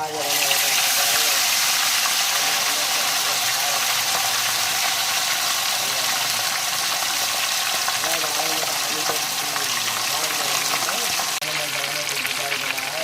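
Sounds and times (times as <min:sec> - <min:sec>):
loud steady hissing: 0:00.0 - 0:13.0.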